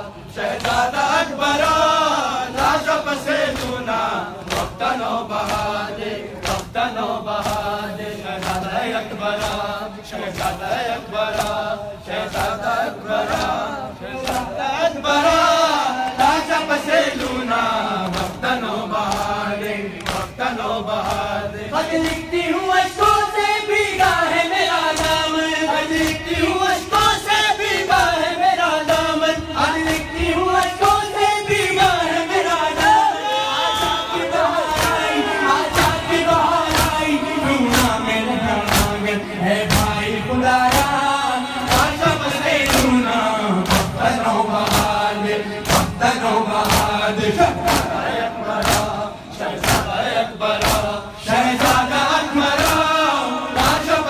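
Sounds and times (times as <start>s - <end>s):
men chanting in unison: 0.0s - 54.0s
rhythmic chest-beating slaps: 0.0s - 54.0s.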